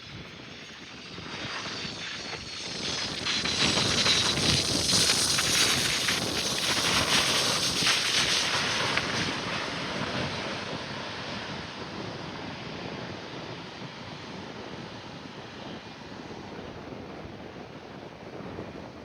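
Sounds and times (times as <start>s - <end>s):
jet engines roaring: 0.0s - 18.9s.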